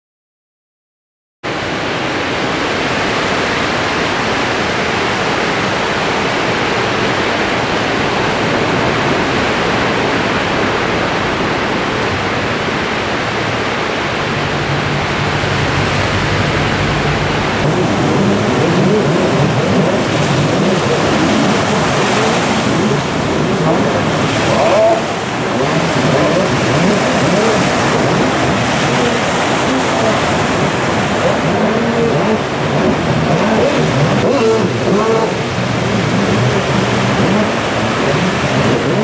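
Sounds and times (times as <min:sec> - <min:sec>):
jet ski engine: 0:01.5 - 0:39.0
ocean waves breaking: 0:01.5 - 0:39.0.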